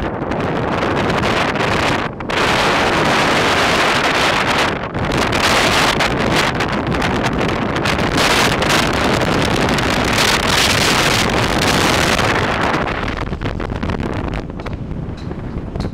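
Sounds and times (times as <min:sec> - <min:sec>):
wind buffeting the microphone: 0:00.0 - 0:15.9
car road noise: 0:00.1 - 0:15.9.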